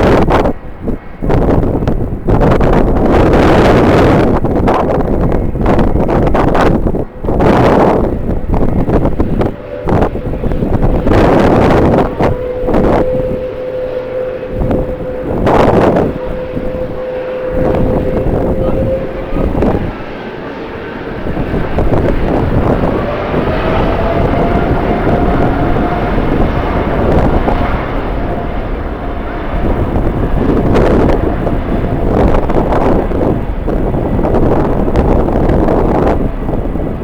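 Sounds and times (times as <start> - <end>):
jet engines whining: 0.0 - 37.0
wind buffeting microphone: 0.0 - 37.0.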